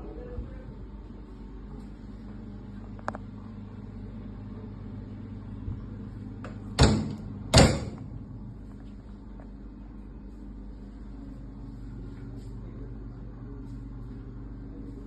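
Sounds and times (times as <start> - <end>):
refrigeration unit humming: 0.0 - 15.0.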